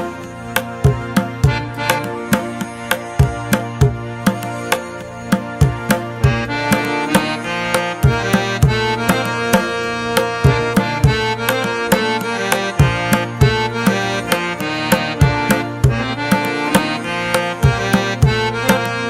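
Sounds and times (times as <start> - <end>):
sustained melodic instrument: 0.0 - 19.0.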